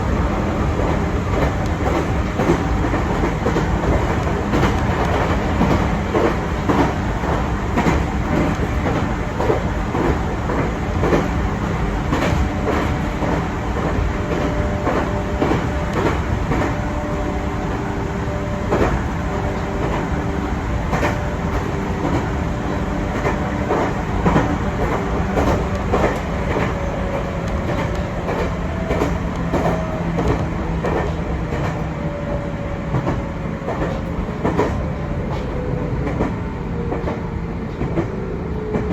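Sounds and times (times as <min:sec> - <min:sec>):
electric train rumbling: 0:00.0 - 0:38.9.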